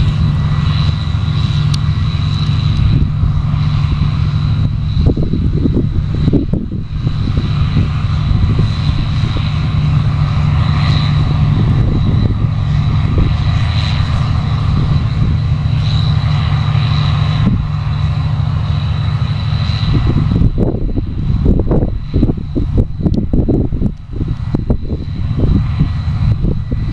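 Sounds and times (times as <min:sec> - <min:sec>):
combine harvester engine drone: 0:00.0 - 0:26.9
high whine: 0:00.0 - 0:26.9.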